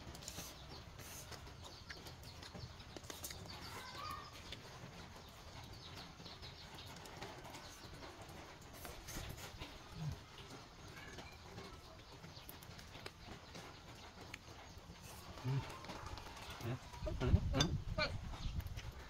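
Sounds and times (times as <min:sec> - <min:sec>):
noodles slurped and chewed: 0:00.0 - 0:17.7.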